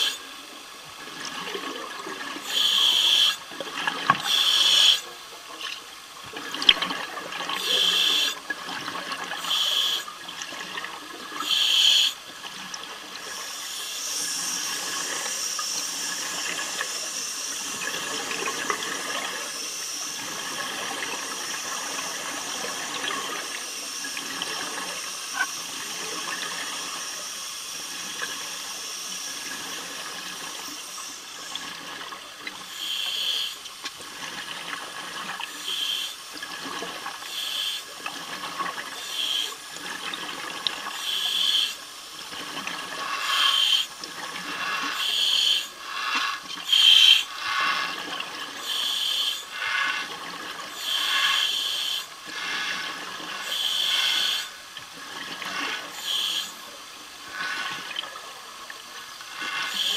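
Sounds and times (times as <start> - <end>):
exhaled bubbles underwater: 0.0 - 59.9
steady watery hiss: 0.0 - 59.9.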